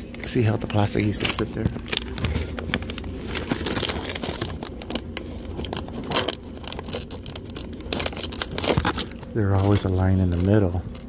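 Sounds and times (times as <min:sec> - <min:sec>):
plastic snack bags crinkling: 0:00.2 - 0:11.0.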